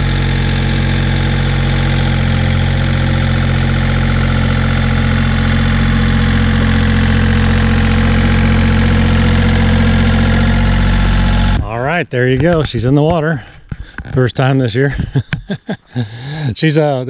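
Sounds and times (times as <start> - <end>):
tractor diesel engine running: 0.0 - 16.7.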